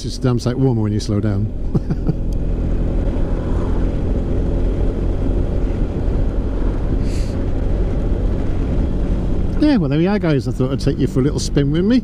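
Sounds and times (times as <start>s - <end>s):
motorcycle engine running: 1.3s - 12.0s.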